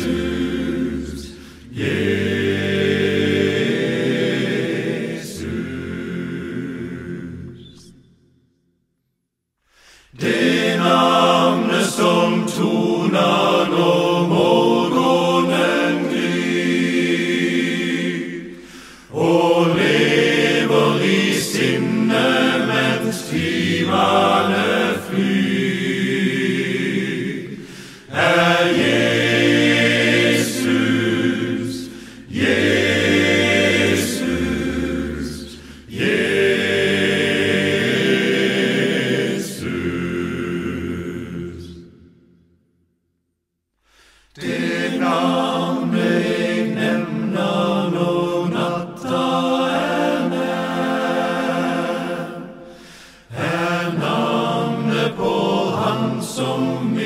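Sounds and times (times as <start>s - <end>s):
men's choir singing a cappella: 0.0s - 8.1s, 10.1s - 42.1s, 44.3s - 57.0s.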